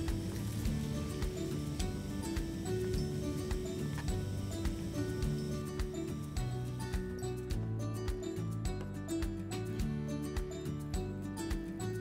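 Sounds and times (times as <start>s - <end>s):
held instrumental notes: 0.0s - 12.0s
light steady beat: 0.0s - 12.0s.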